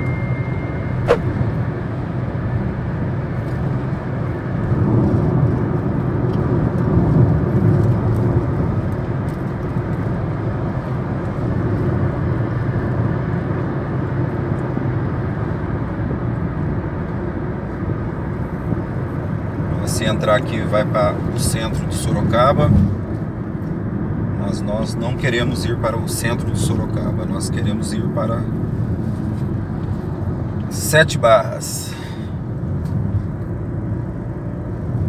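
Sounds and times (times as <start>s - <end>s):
car driving at highway speed: 0.0s - 35.0s.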